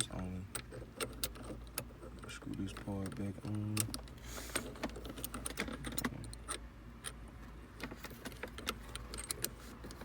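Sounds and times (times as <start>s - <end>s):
small parts clicking and rattling: 0.0s - 7.2s, 7.8s - 10.0s.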